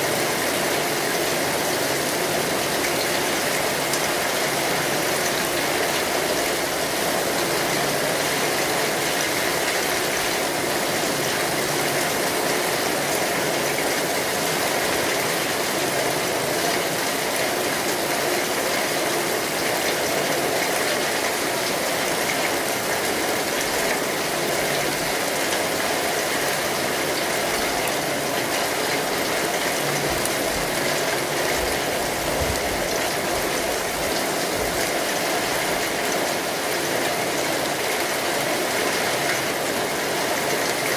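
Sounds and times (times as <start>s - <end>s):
rain on an umbrella: 0.0s - 40.9s.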